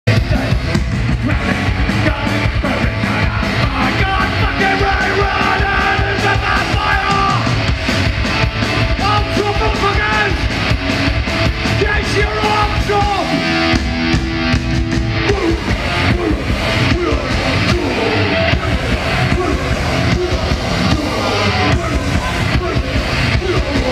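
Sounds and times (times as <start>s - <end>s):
drum beat: 0.1s - 23.9s
electric guitars: 0.1s - 23.9s.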